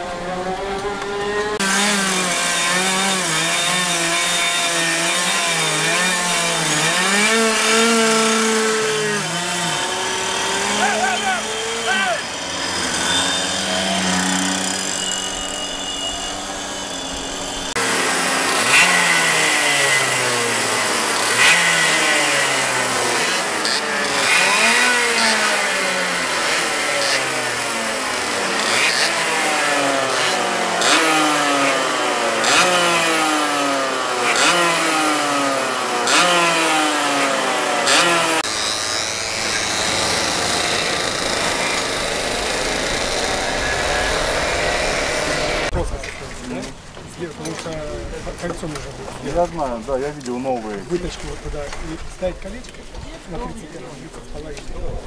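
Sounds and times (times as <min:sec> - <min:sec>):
kart engines revving: 0:00.0 - 0:52.7.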